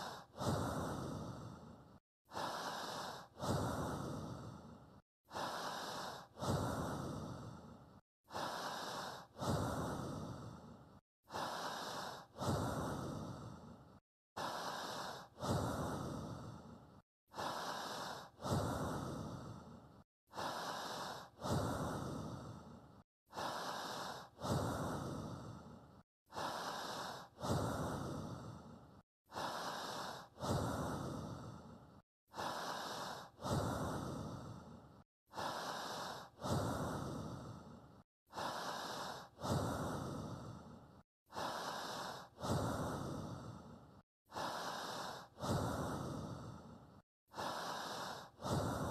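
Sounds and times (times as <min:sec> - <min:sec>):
person breathing slowly: 0:00.0 - 0:48.9.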